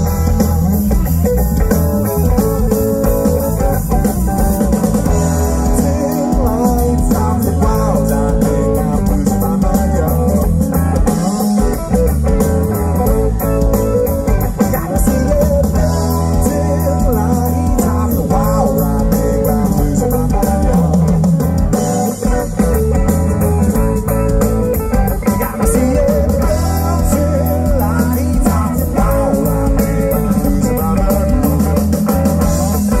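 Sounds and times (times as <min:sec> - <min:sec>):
bending lead guitar line: 0:00.0 - 0:33.0
live rock band playing: 0:00.0 - 0:33.0.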